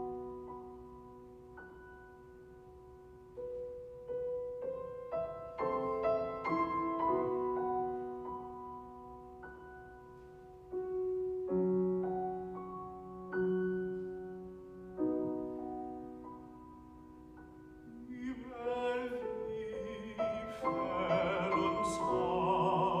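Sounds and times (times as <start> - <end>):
soft classical piano: 0.0 - 23.0.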